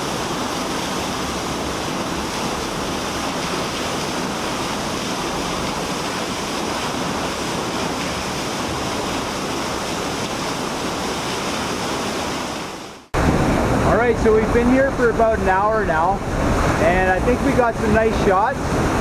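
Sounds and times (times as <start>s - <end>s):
loud waterfall rushing: 0.0s - 19.0s.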